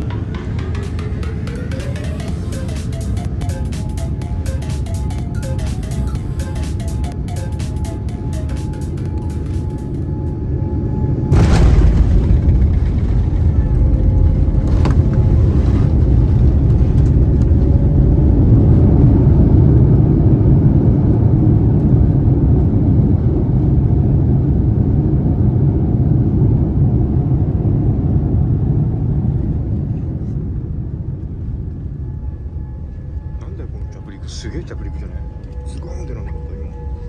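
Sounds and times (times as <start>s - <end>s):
plane rolling on runway rumble: 0.0s - 37.0s.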